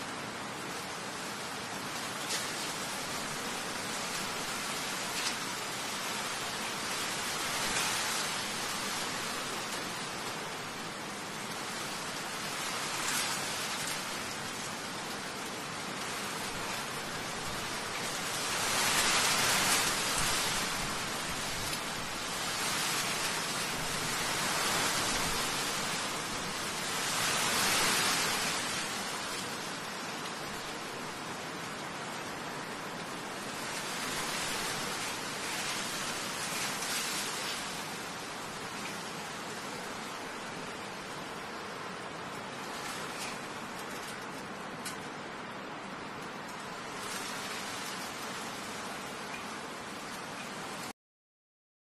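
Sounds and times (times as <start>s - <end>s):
rain hissing: 0.0s - 50.9s.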